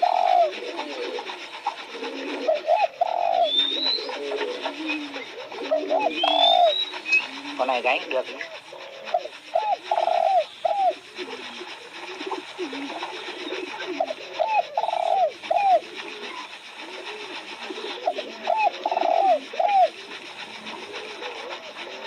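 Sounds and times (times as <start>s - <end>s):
dove cooing song: 0.0s - 22.0s.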